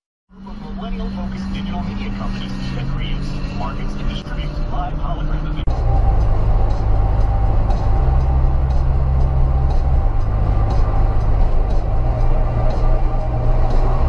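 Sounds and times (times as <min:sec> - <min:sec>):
car road and engine drone: 0:00.3 - 0:14.0
low hum shifting in pitch: 0:00.3 - 0:14.0.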